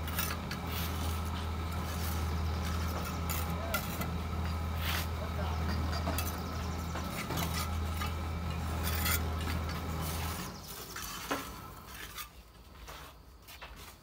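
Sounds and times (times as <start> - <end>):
trowel scraping mortar: 0.0 - 6.4, 7.0 - 13.2
steady low hum: 0.0 - 12.8.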